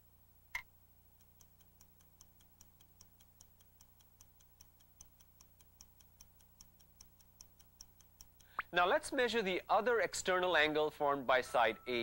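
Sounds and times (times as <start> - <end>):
clock ticking: 0.6 - 11.8.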